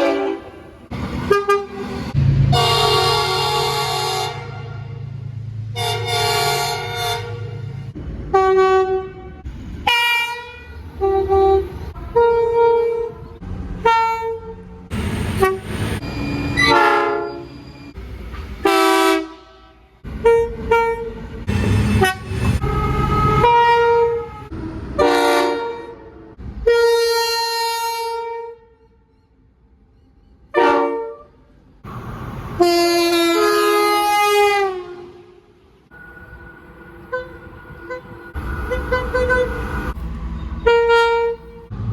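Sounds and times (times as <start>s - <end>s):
locomotive air horn blasts: 0.0s - 17.7s, 18.6s - 29.0s, 30.5s - 31.5s, 32.6s - 35.5s, 37.0s - 40.0s, 40.6s - 41.7s.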